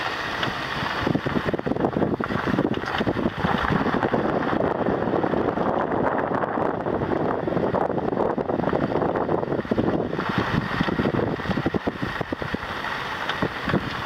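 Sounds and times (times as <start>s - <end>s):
tyre and road noise: 0.0s - 14.0s
wind buffeting microphone: 0.4s - 14.0s.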